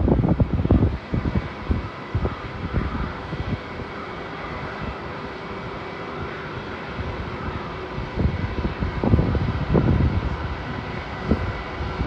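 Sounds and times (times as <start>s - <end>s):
jet engines whining: 0.0s - 12.0s
wind buffeting the microphone: 0.0s - 12.0s.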